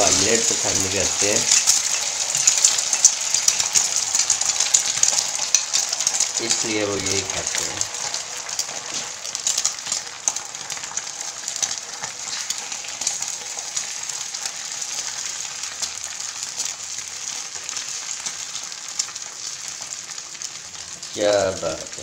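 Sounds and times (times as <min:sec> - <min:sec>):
egg sizzling in oil: 0:00.0 - 0:22.0.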